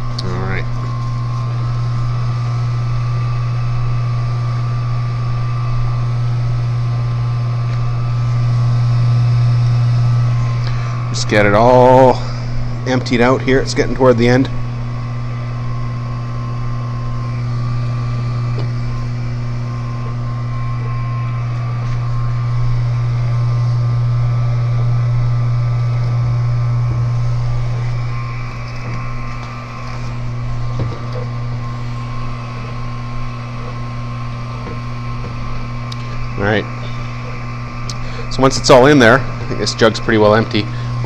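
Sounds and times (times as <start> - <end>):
electric pump humming: 0.0 - 41.0.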